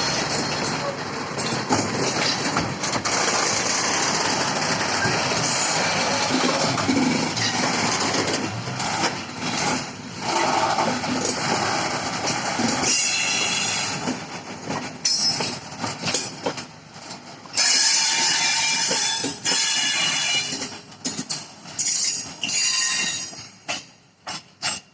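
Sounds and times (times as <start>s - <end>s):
train wheels clattering over rail joints: 0.0s - 24.9s.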